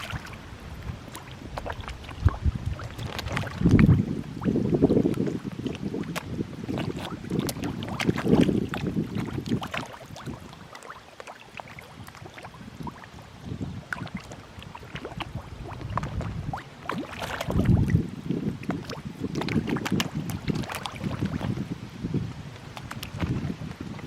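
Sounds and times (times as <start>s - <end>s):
fish splashing at surface: 0.0s - 4.5s, 5.2s - 13.2s, 13.8s - 17.9s, 18.6s - 21.6s
churning water: 0.0s - 24.0s.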